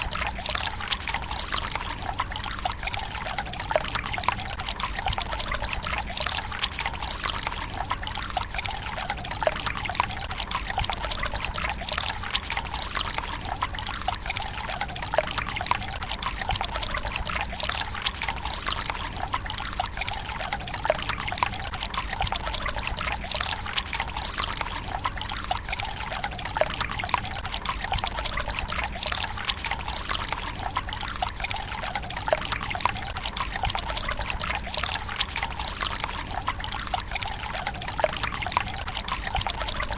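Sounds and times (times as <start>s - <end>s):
water trickling into stone basin: 0.0s - 39.9s.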